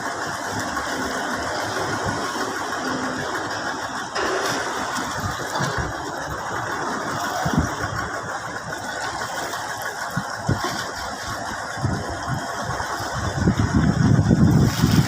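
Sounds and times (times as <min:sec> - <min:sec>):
engines running: 0:00.0 - 0:15.0.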